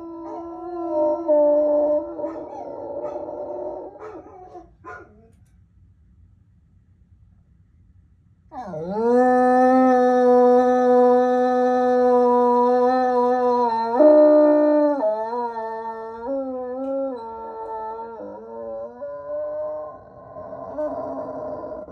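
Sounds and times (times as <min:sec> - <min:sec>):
dog howling: 0:00.0 - 0:05.3, 0:08.5 - 0:21.9.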